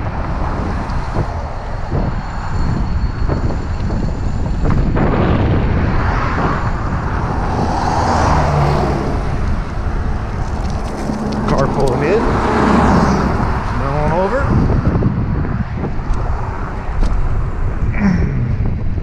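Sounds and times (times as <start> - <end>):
road traffic passing: 0.0 - 19.0
wind rumble on microphone: 0.0 - 19.0.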